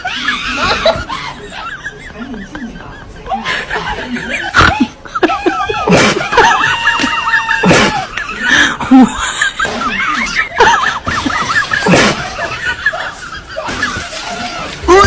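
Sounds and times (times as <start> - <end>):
high-pitched laughing and giggling: 0.0 - 15.0.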